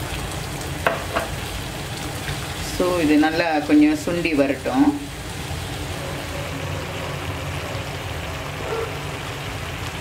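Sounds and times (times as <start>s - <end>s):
filling bubbling in a pan: 0.0s - 10.0s.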